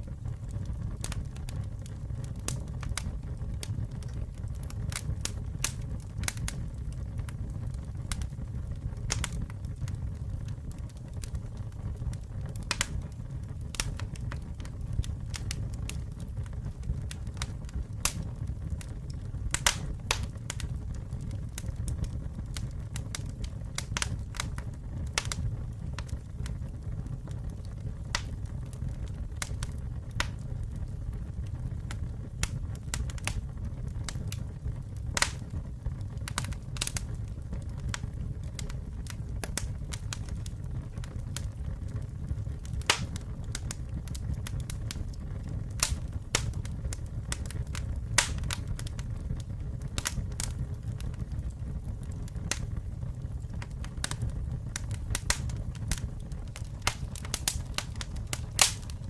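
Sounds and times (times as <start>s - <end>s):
fire crackling and popping: 0.0s - 59.0s
fire roaring: 0.0s - 59.0s.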